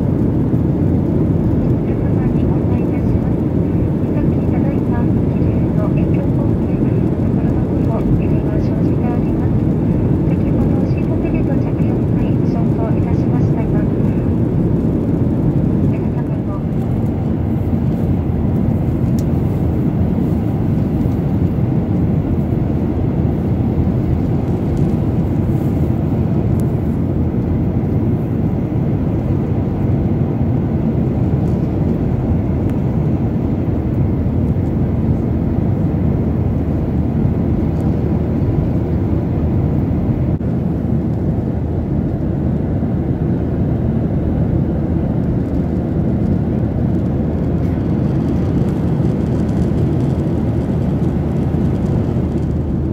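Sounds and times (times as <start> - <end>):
airliner cabin low rumble: 0.0 - 52.9.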